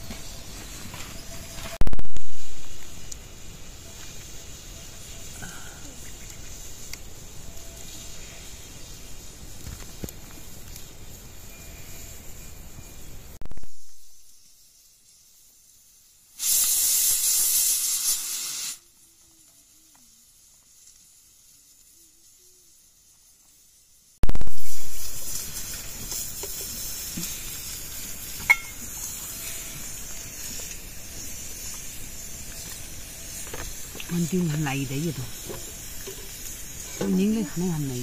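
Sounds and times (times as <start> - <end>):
high hiss: 0.0 - 38.0.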